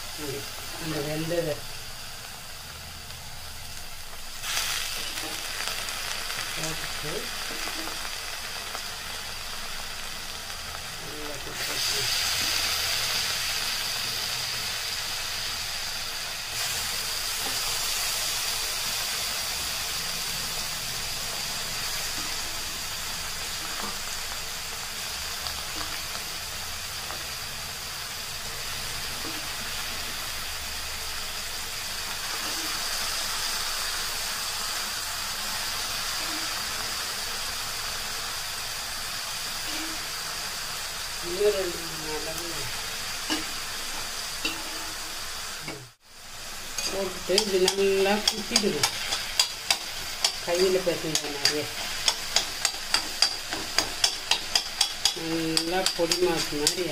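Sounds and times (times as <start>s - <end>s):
food frying with sizzling hiss: 0.0s - 56.9s.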